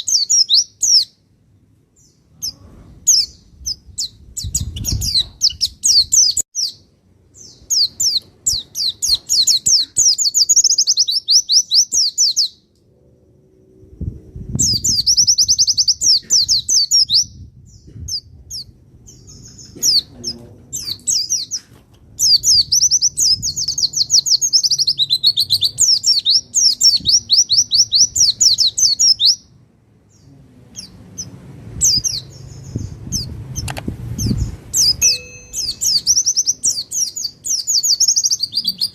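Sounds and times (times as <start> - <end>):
bird chirps: 0.0 - 1.2, 2.0 - 12.8, 14.6 - 38.9
bird singing high trills: 0.0 - 1.2, 2.0 - 12.7, 14.6 - 21.6, 22.2 - 38.9.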